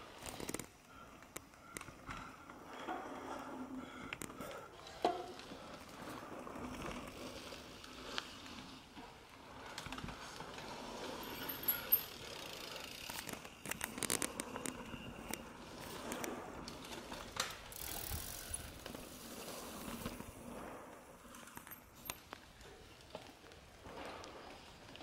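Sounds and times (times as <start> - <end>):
bike tyres on dirt and grass: 0.0 - 25.0
sharp clicks from bikes: 0.0 - 25.0.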